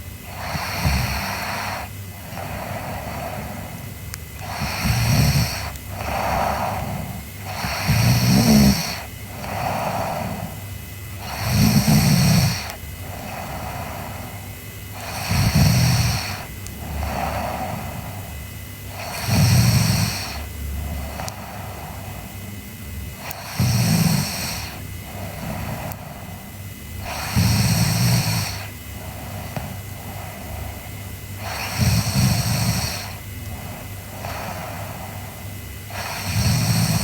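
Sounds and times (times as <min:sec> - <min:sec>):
girl snoring: 0:00.0 - 0:22.3, 0:23.1 - 0:37.0.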